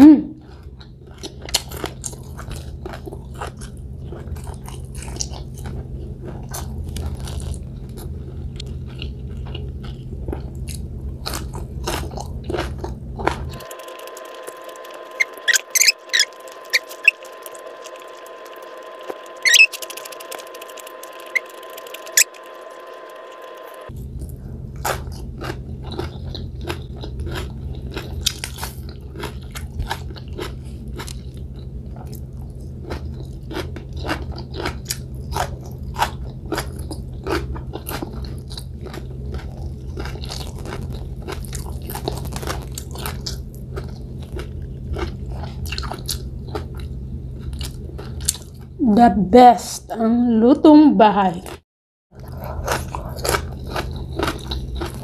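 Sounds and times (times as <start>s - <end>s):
steady background hum: 0.0s - 55.0s
crunching and chewing food: 0.4s - 48.8s, 51.3s - 55.0s.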